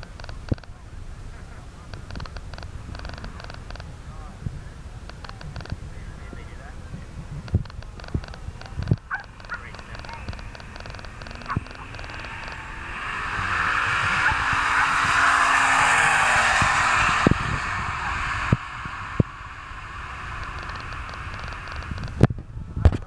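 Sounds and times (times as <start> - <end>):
race car at full throttle: 0.0 - 4.1, 6.4 - 23.0.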